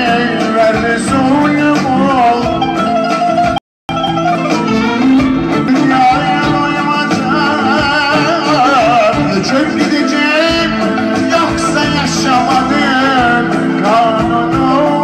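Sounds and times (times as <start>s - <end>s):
plucked string accompaniment: 0.0s - 15.0s
violin melody: 2.3s - 15.0s.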